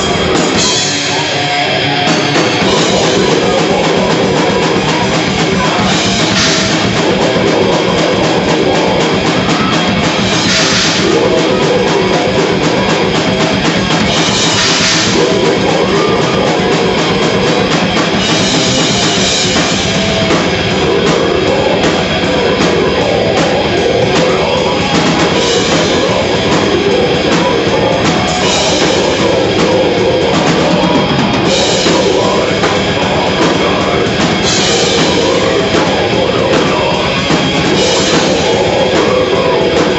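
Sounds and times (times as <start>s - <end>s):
distorted guitars: 0.0s - 39.9s
fast dense drumming: 0.0s - 39.9s.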